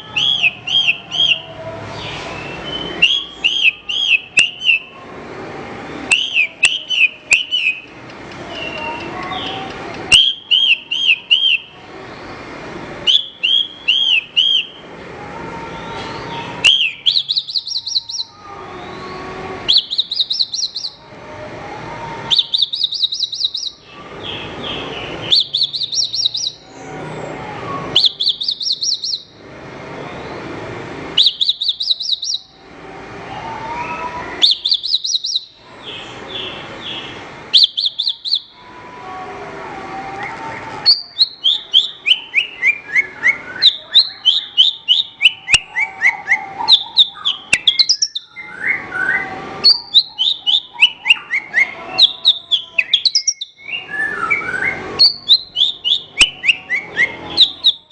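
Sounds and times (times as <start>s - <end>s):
bird singing trills and chirps: 0.0s - 5.0s, 6.1s - 12.4s, 13.0s - 14.8s, 15.8s - 21.1s, 22.3s - 27.2s, 27.9s - 29.4s, 31.2s - 32.6s, 33.3s - 38.6s, 40.1s - 57.9s.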